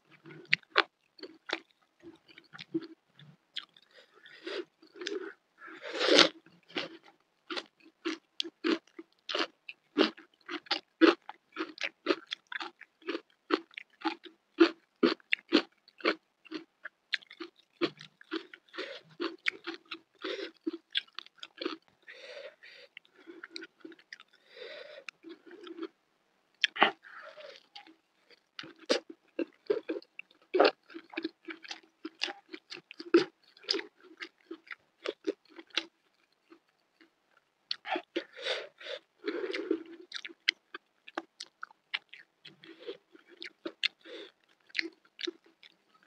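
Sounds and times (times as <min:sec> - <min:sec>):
crunchy chewing: 0:00.1 - 0:24.4, 0:26.6 - 0:46.0.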